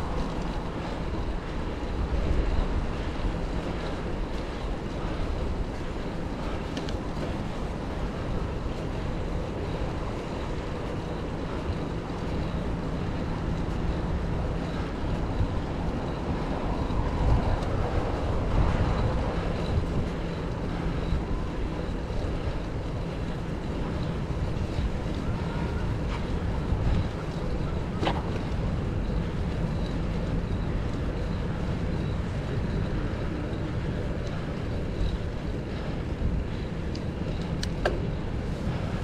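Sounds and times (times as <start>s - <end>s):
bicycle rumble: 0.0s - 39.0s
wind rushing over microphone: 0.0s - 39.0s.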